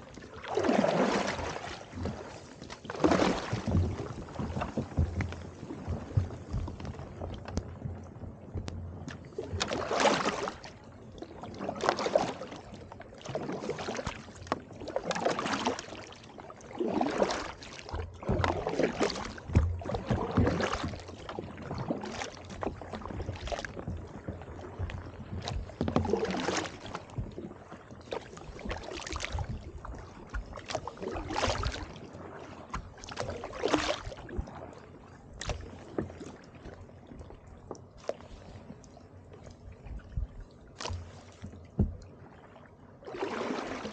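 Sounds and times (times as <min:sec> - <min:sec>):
paddle splashing through water: 0:00.0 - 0:43.9.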